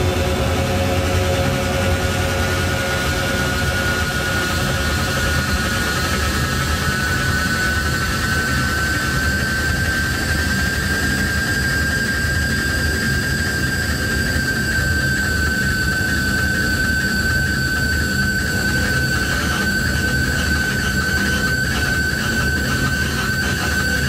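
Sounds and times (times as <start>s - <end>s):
piercing whistle-like tone: 0.6s - 24.0s.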